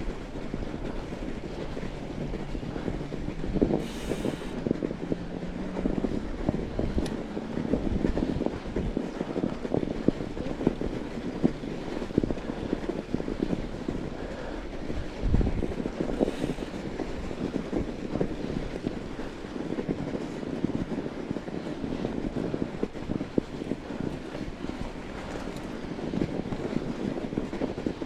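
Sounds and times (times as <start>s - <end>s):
tyres crunching on snow: 0.0s - 15.0s, 15.6s - 28.0s
wind on microphone: 0.0s - 28.0s.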